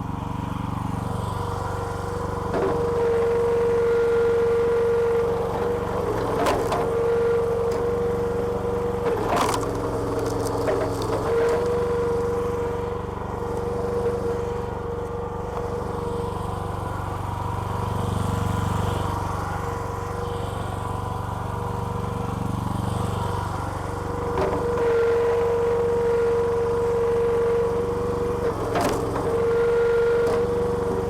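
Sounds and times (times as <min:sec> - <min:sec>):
small petrol engine running: 0:00.0 - 0:31.0.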